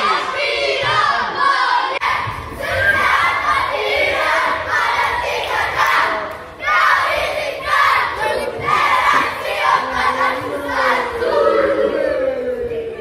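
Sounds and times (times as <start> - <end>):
children shouting and chanting: 0.0 - 13.0.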